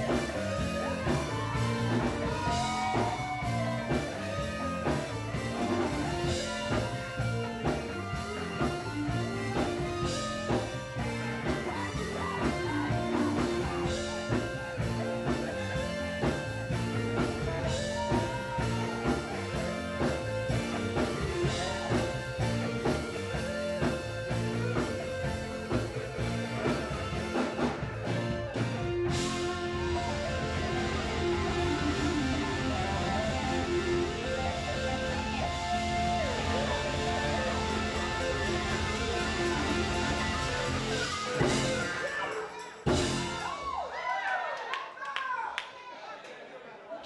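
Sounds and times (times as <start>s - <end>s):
live gospel band music: 0.0s - 43.9s.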